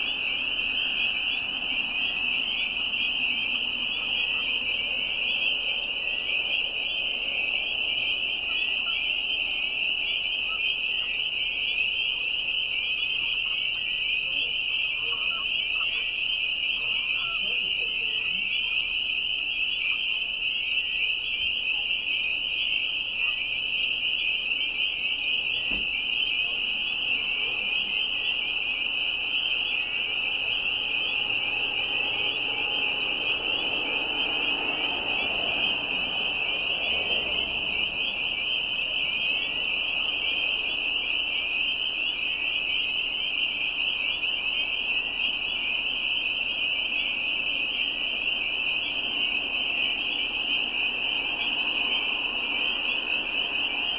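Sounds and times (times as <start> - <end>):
chorus of spring peepers: 0.0 - 53.9.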